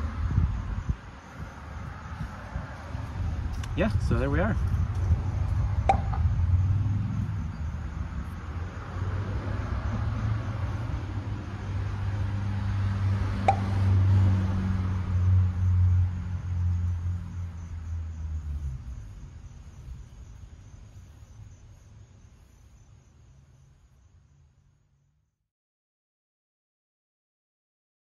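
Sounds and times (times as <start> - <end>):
vehicle engine rumble: 0.0 - 24.6.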